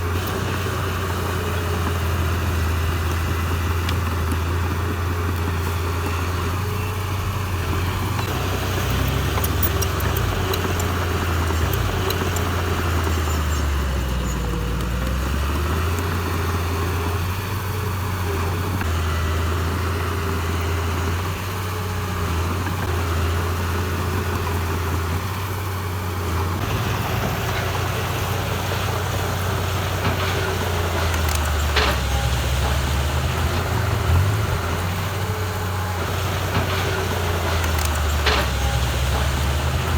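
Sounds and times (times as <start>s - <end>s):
diesel machinery engine droning: 0.0s - 39.9s.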